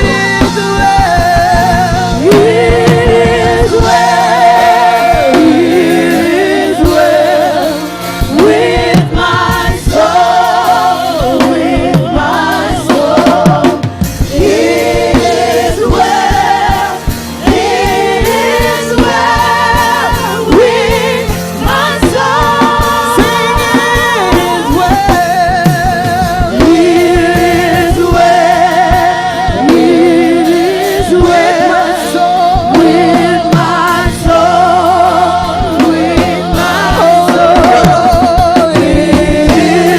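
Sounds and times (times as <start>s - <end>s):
choir singing gospel song: 0.0s - 39.9s
drums with steady beat: 0.0s - 39.9s
keyboard: 0.0s - 39.9s.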